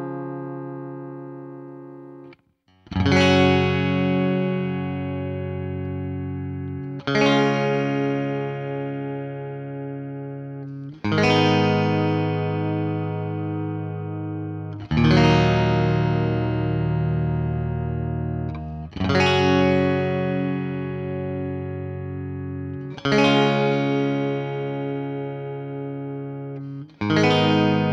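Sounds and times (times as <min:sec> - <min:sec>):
electric guitar chords strummed: 0:00.0 - 0:27.9.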